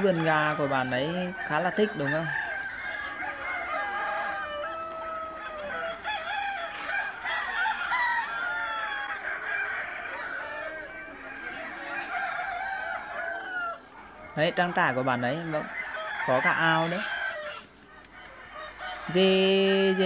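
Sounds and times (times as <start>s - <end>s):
chickens clucking: 0.0s - 20.0s
roosters crowing: 0.0s - 20.0s.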